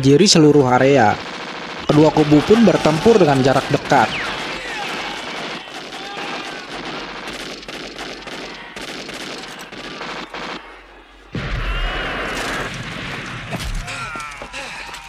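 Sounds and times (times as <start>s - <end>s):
rifle and machine-gun fire: 0.0s - 14.3s.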